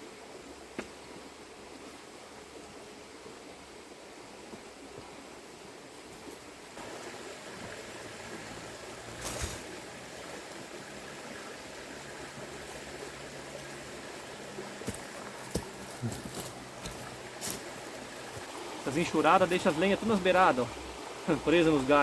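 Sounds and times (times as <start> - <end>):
small river flowing: 0.0 - 22.0.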